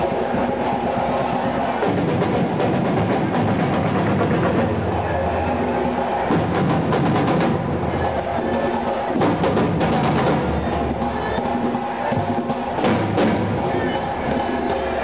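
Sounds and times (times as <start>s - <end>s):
deep drum beats: 0.0s - 15.0s.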